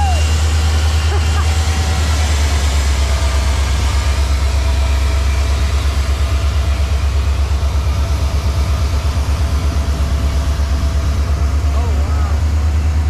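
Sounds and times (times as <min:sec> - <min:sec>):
diesel locomotive engine rumble: 0:00.0 - 0:13.0
freight cars rolling by: 0:00.0 - 0:13.0.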